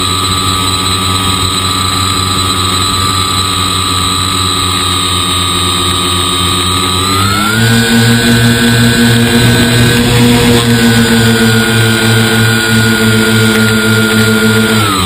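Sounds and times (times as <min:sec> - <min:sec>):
model plane motor whine: 0:00.0 - 0:15.0.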